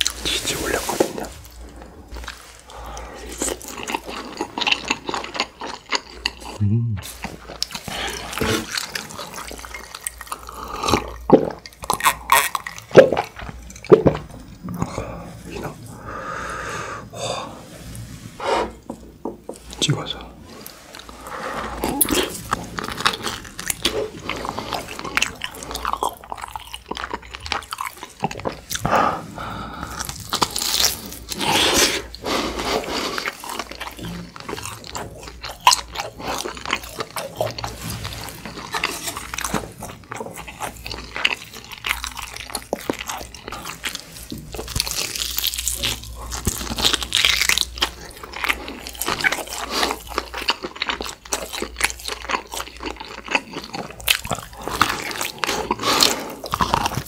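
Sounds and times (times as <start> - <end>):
biting and chewing meat: 1.5 - 15.0, 21.0 - 29.0, 29.8 - 57.0.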